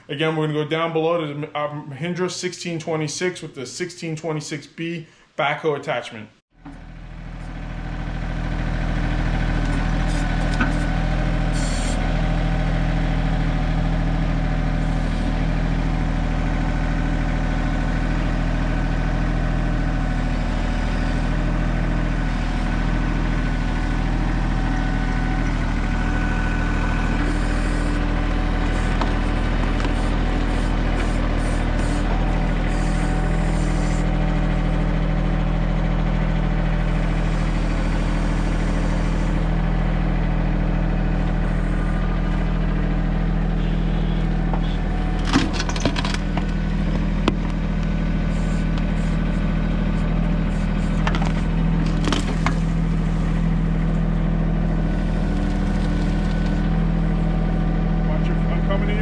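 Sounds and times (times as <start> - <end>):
tractor diesel engine running: 6.5 - 59.0.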